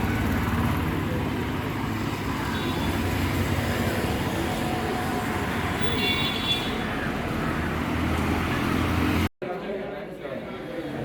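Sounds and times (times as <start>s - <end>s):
traffic rumble: 0.0s - 9.3s.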